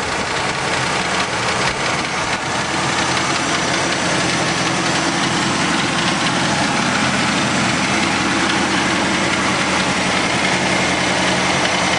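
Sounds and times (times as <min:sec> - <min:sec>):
car engine idling: 0:00.0 - 0:11.9
engine knock: 0:00.0 - 0:11.9.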